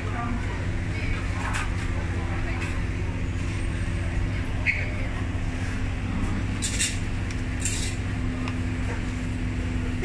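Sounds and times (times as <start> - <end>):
low hum with steady tones: 0.0 - 10.0.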